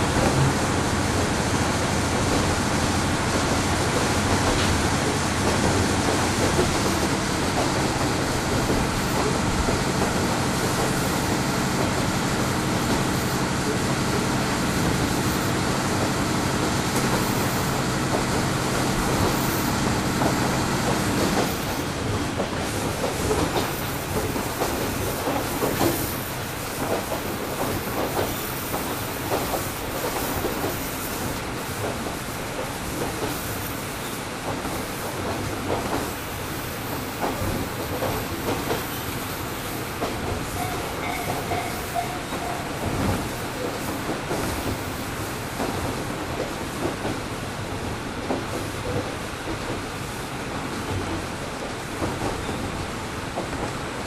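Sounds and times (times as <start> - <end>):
diesel railcar engine running: 0.0 - 54.0
rail joint clicks: 0.0 - 54.0
wheel and rail rolling noise: 0.0 - 54.0.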